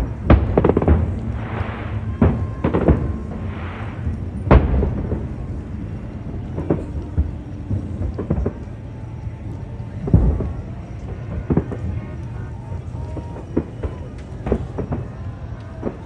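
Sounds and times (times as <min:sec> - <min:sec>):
fireworks booming: 0:00.0 - 0:16.0
low rumble: 0:00.0 - 0:16.0.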